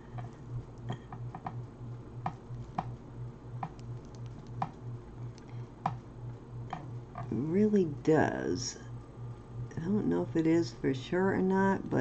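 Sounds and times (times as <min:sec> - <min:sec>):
faint pulsing low hum: 0:00.0 - 0:12.0.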